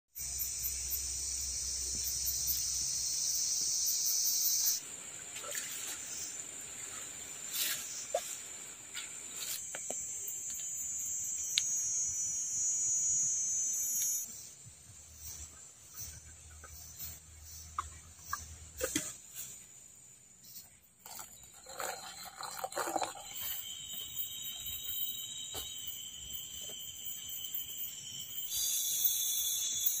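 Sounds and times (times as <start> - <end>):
high-pitched insect chorus: 0.1 - 30.0.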